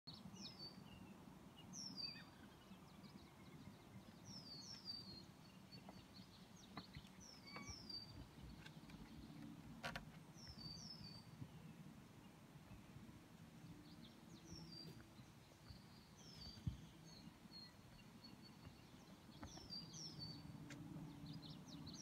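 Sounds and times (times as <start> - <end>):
songbird calls: 0.1 - 13.0, 13.8 - 22.0.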